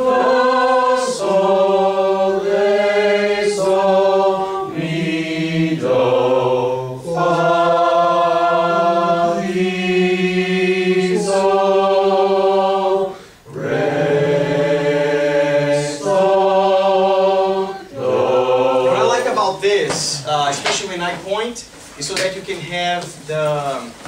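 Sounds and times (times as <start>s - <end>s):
voices singing held notes: 0.0s - 20.3s.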